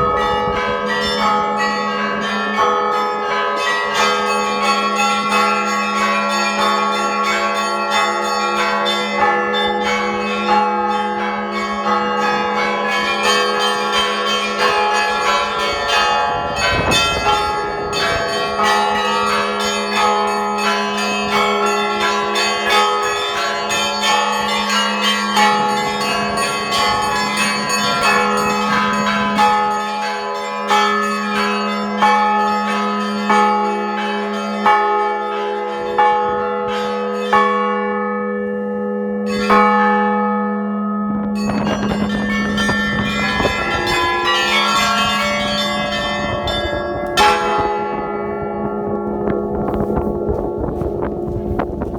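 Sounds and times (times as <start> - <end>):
church bells ringing: 0.0 - 51.9
heavy low bell stroke: 0.0 - 51.9.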